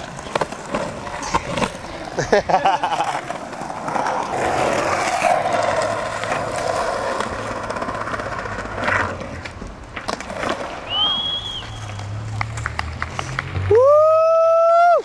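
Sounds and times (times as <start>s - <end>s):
skateboard clicks: 0.0s - 13.8s
skateboard rolling over concrete: 0.0s - 15.0s.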